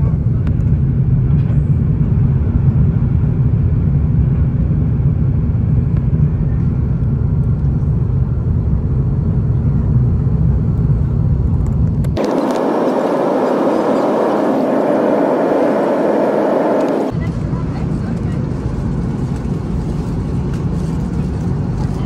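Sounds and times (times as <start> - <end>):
jet engine cabin rumble: 0.0 - 22.0.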